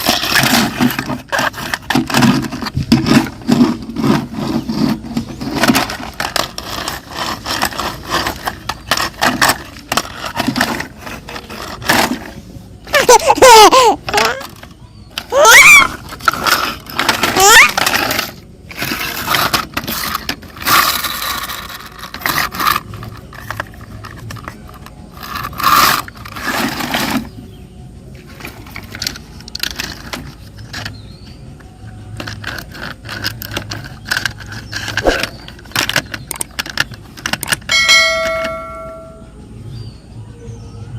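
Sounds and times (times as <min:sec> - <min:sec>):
hard objects clattering: 0:00.0 - 0:39.4.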